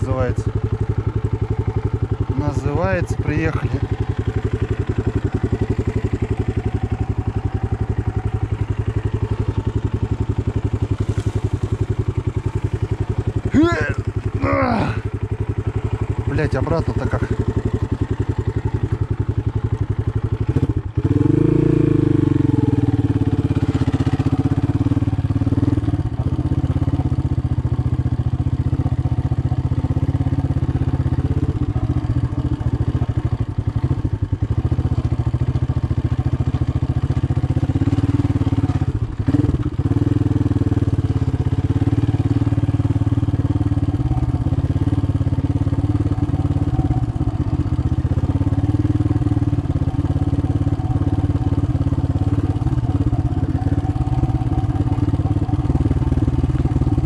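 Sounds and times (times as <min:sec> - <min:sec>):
motorcycle engine at low revs: 0:00.0 - 0:57.0.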